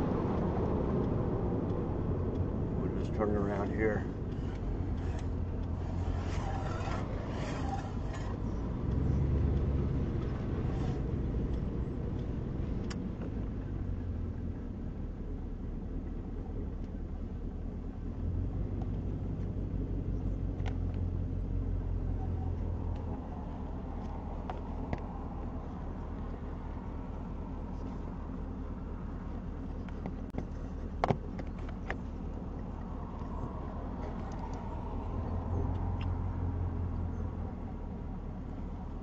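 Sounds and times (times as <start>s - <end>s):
car engine drone: 0.0s - 39.0s
road noise: 0.0s - 39.0s.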